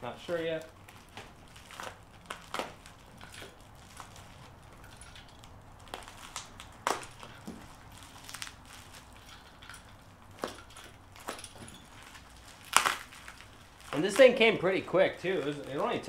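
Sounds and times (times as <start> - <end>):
plastic bags crinkling: 0.1 - 16.0.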